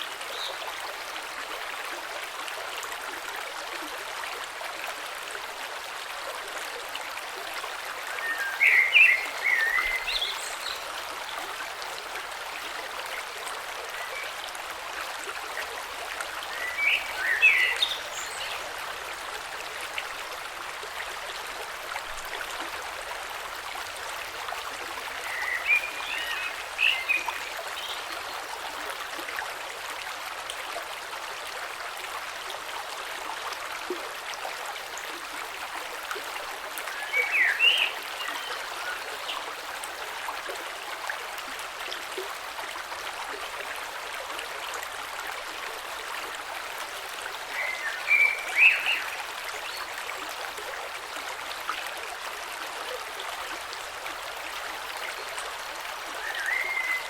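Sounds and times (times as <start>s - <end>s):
creek flowing over stones: 0.0s - 57.0s.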